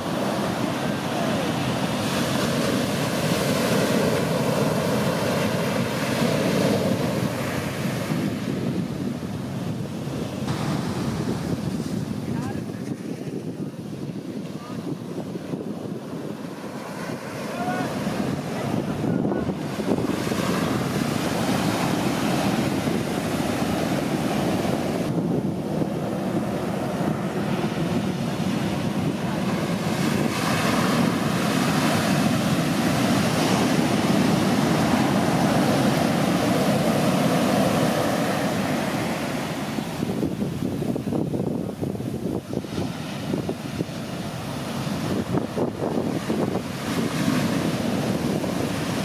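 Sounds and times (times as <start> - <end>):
waves crashing: 0.0 - 49.0
whitewater rushing up sand: 0.0 - 49.0
wind buffeting microphone: 0.0 - 49.0.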